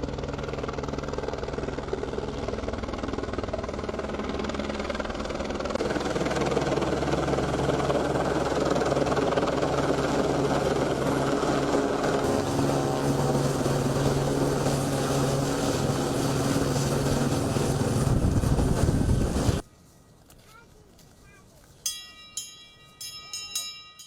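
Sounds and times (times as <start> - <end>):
helicopter rotor and engine: 0.0 - 19.6.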